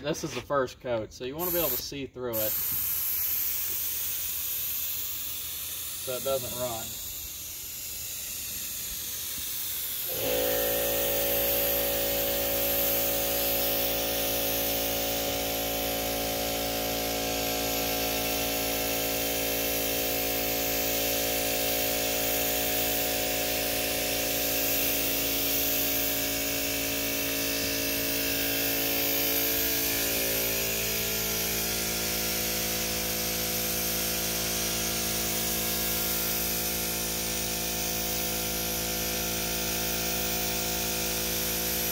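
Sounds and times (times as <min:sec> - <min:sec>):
paint spray gun hissing: 0:01.2 - 0:41.9.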